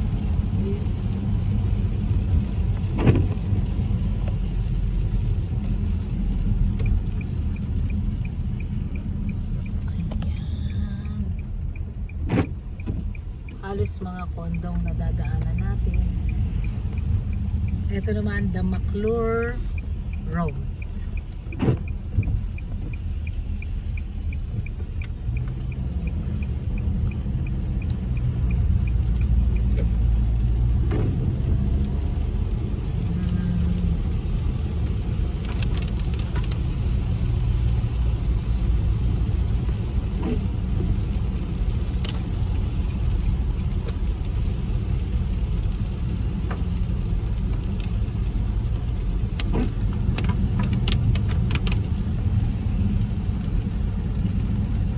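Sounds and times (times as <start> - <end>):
car engine and tyres rumbling: 0.0 - 54.9
light regular ticking: 0.0 - 54.9.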